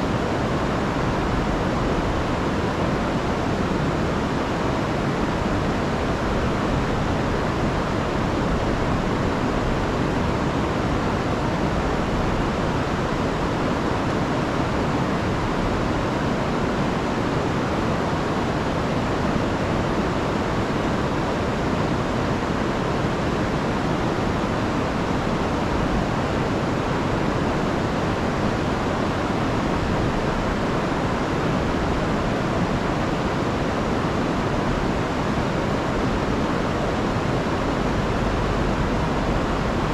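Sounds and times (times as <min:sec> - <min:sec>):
river roaring over a fall: 0:00.0 - 0:39.9.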